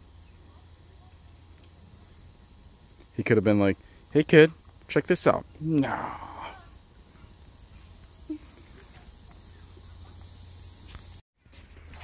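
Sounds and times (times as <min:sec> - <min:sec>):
insects trilling: 0:00.0 - 0:11.2.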